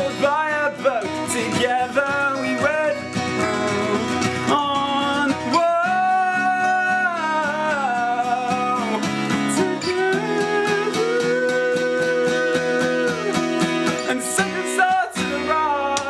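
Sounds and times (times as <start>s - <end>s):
strummed acoustic guitar: 0.0s - 16.0s
person singing long notes: 1.4s - 16.0s.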